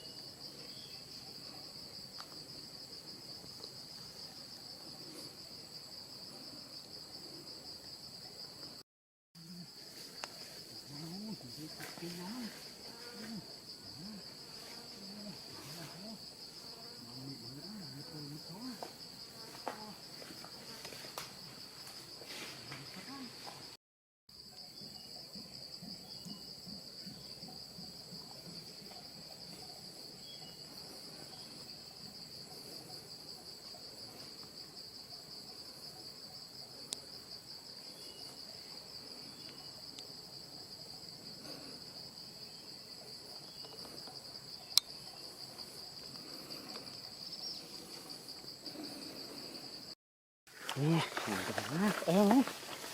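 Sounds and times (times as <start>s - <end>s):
crickets trilling: 0.0s - 8.8s, 9.4s - 52.9s.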